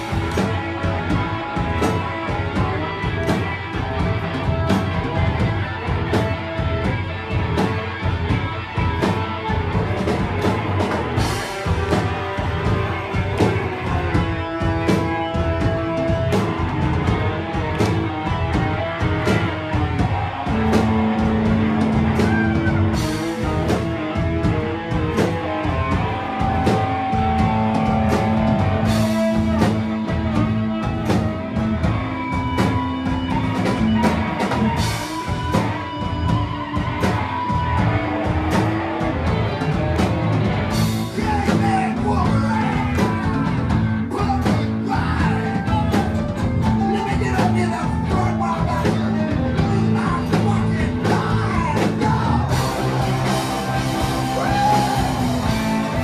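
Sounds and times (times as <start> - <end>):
live rock and roll band: 0.0 - 56.0.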